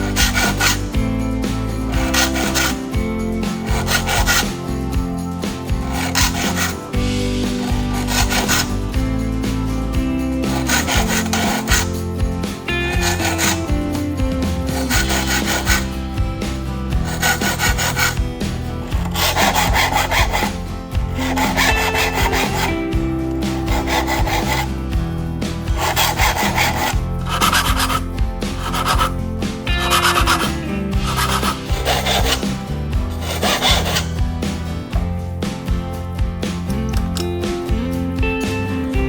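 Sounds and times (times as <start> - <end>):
hand saw cutting wood: 0.0 - 35.1
background music: 0.0 - 39.0.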